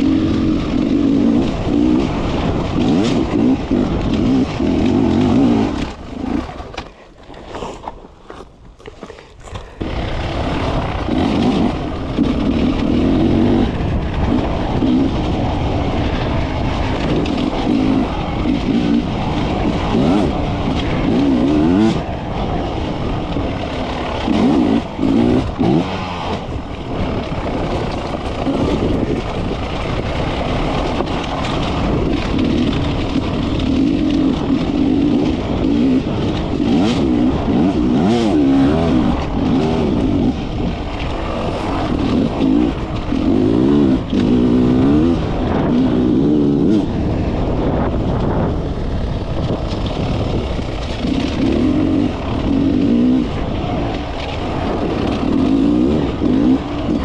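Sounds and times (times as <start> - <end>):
motorcycle engine revving: 0.0 - 8.5, 9.4 - 57.0.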